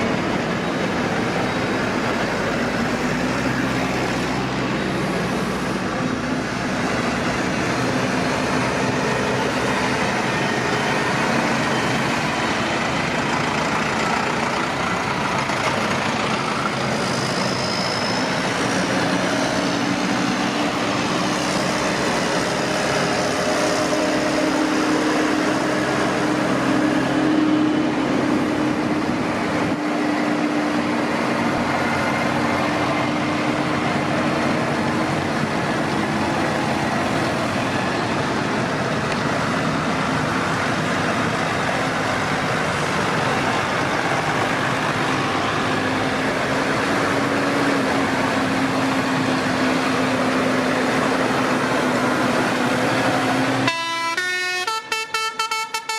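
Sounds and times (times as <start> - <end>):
tractor engines running: 0.0 - 55.9.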